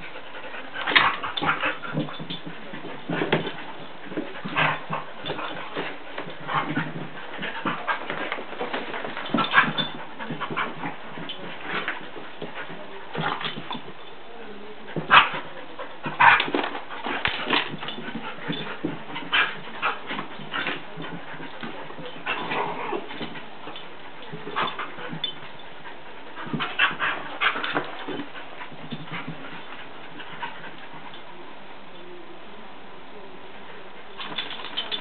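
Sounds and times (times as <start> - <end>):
dogs scuffling: 0.0 - 31.3, 34.0 - 35.0.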